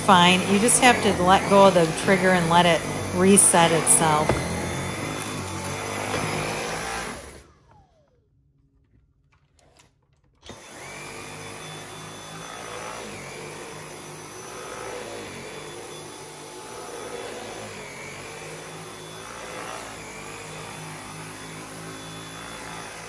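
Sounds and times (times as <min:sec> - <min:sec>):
vacuum cleaner on carpet: 0:00.0 - 0:08.1, 0:10.4 - 0:23.0.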